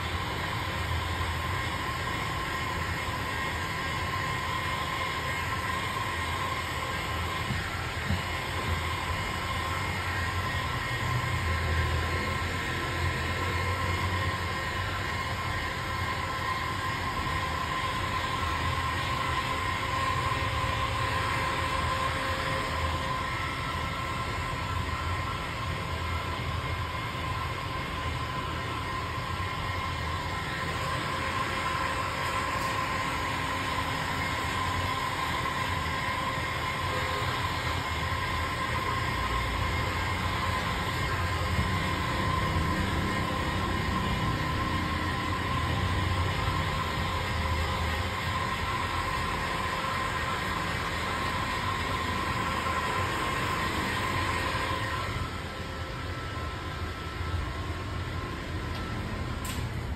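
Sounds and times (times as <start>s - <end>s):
heat gun fan whine: 0.0s - 59.9s.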